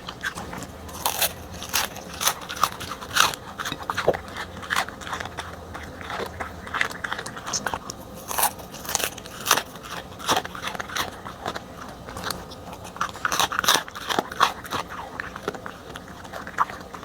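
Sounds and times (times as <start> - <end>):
dog chewing and crunching: 0.0 - 17.0.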